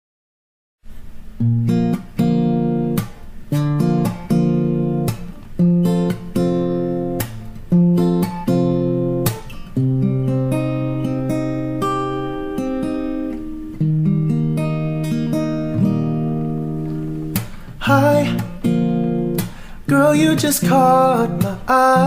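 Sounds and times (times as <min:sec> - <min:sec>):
acoustic guitar strumming chords: 0:00.9 - 0:22.0.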